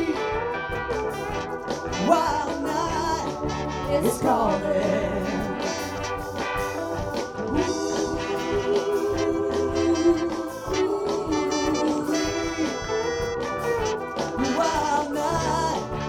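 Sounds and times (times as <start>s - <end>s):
held keyboard chords: 0.0s - 16.0s
soul band playing live: 0.0s - 16.0s.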